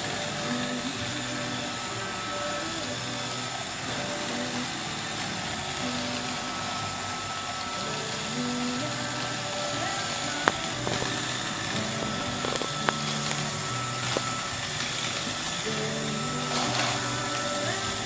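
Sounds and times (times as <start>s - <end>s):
robot vacuum motor whine: 0.0s - 18.0s.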